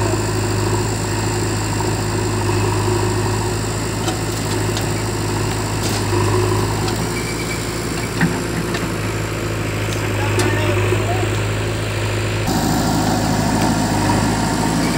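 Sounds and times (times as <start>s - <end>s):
diesel engines idling: 0.0s - 14.9s.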